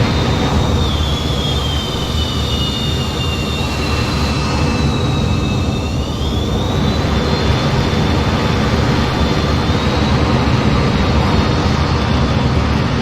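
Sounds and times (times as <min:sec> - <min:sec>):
high turbine whine: 0:00.0 - 0:13.0
jet engines roaring: 0:00.0 - 0:13.0.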